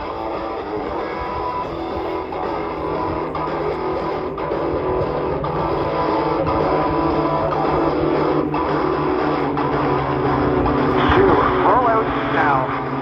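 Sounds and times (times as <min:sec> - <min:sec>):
guitar music with held notes: 0:00.0 - 0:13.0.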